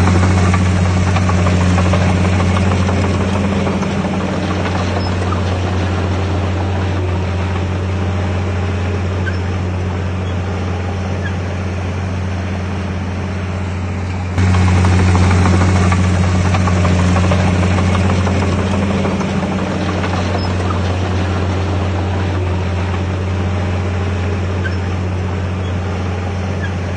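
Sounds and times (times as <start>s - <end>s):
heavy diesel engine running: 0.0s - 26.9s.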